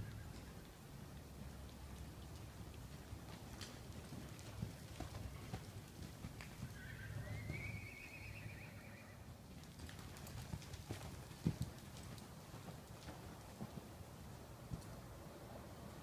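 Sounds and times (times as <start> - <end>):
muffled hoofbeats on sand: 0.0 - 8.0, 9.7 - 15.0.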